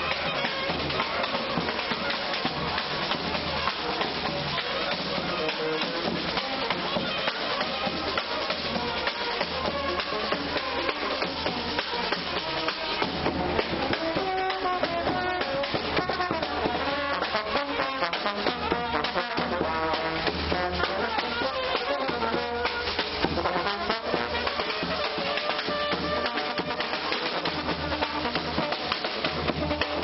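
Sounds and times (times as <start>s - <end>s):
marching brass band playing: 0.0s - 30.0s
steady bass drum beat: 0.0s - 30.0s
tuba: 0.0s - 30.0s.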